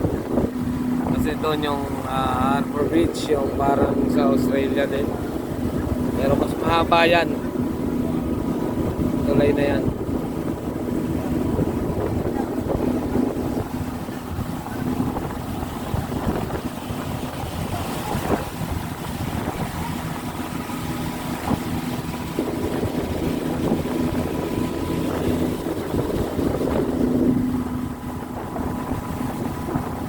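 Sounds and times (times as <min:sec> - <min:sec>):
motorboat engine humming: 0:00.0 - 0:30.0
wind buffeting microphone: 0:00.0 - 0:30.0.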